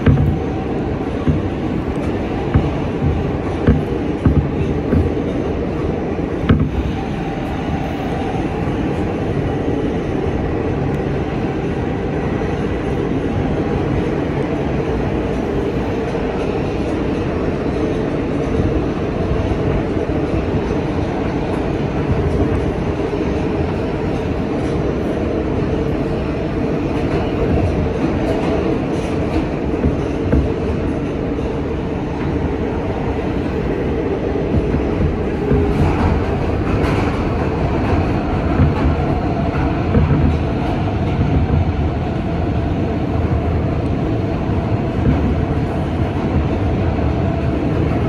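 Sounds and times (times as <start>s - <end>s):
subway car wheels and motors rumbling: 0.0s - 48.0s.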